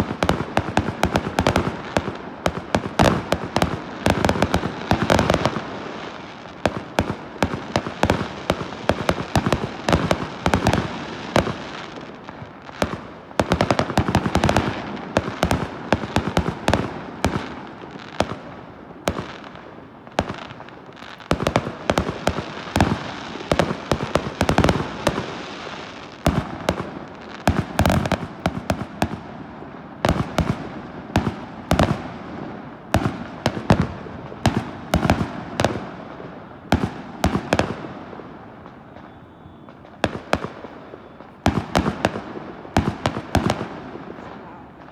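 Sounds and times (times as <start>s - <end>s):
fireworks bangs and cracks: 0.0s - 44.9s.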